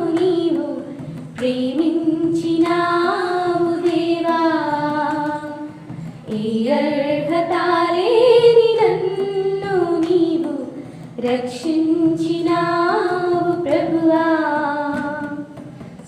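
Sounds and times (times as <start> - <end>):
women singing a hymn: 0.0 - 15.6.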